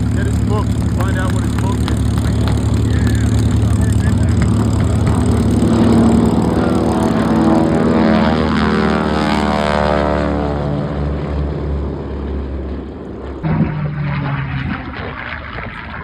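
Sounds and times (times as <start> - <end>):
propeller plane engine passing by: 0.0 - 16.0.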